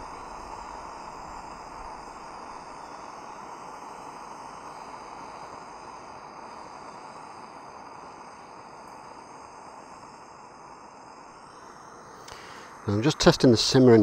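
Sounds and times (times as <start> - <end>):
gas stove burner hissing: 0.0 - 14.0
water boiling in pot: 0.0 - 14.0.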